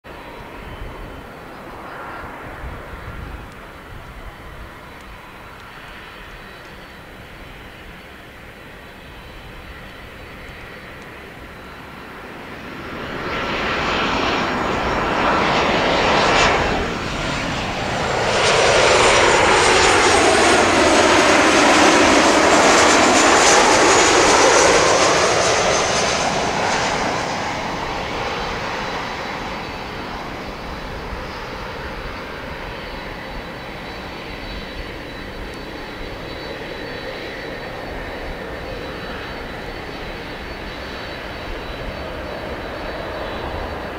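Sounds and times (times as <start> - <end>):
high engine whine: 0.1 - 43.9
jet engines roaring overhead: 0.1 - 43.9.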